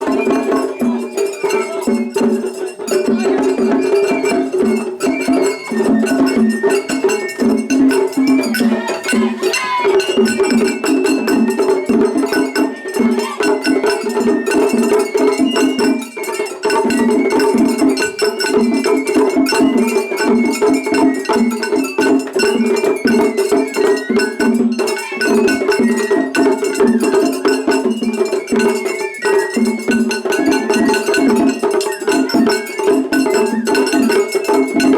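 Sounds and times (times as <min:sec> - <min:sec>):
bamboo flute melody: 0:00.0 - 0:34.9
drums playing: 0:00.0 - 0:34.9.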